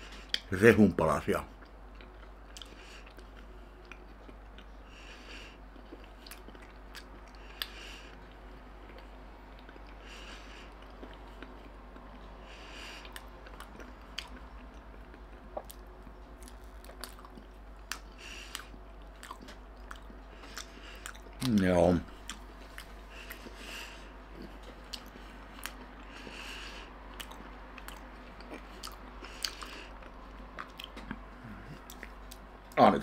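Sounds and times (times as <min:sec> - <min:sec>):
chewing with mouth closed: 0:01.6 - 0:32.5.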